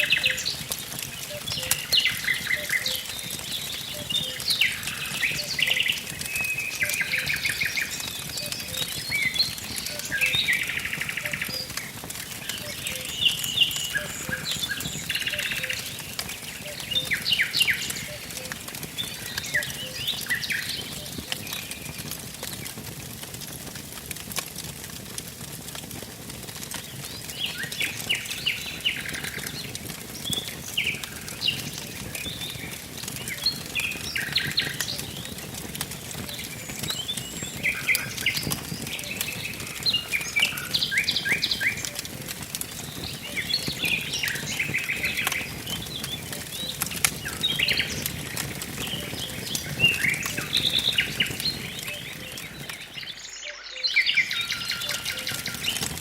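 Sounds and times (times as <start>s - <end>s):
songbirds singing: 0.0s - 22.9s, 26.7s - 56.0s
wood fire crackling: 0.0s - 56.0s.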